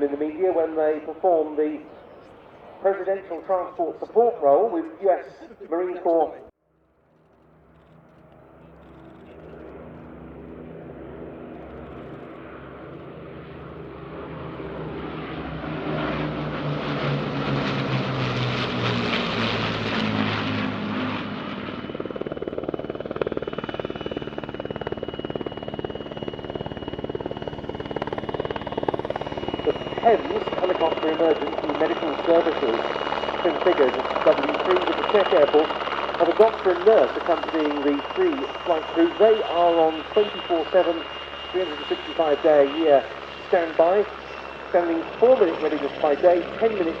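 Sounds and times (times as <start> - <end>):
propeller aircraft engine drone: 0.0 - 47.0
helicopter rotor chop: 7.2 - 47.0.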